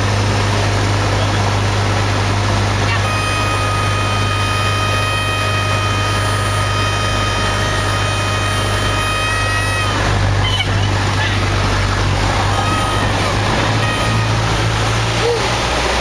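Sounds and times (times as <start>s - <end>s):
aircraft engine drone: 0.0s - 16.0s
stall warning horn: 2.8s - 16.0s.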